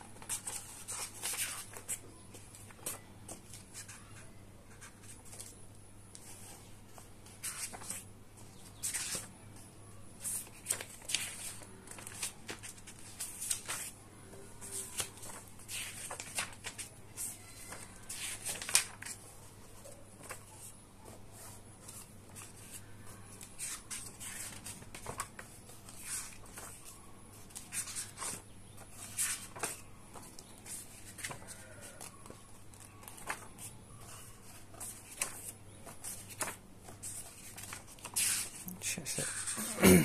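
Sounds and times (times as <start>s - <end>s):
book pages turning: 0.1s - 38.6s.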